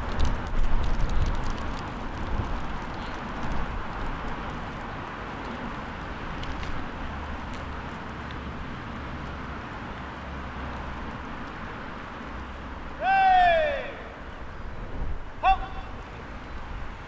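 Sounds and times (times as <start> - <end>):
marching footsteps on tarmac: 0.0 - 17.0
outdoor rush with low rumble: 0.0 - 17.0.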